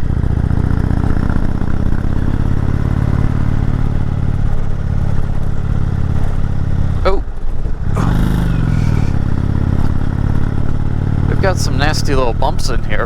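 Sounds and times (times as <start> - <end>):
road and wind noise: 0.0 - 8.5, 9.1 - 13.0.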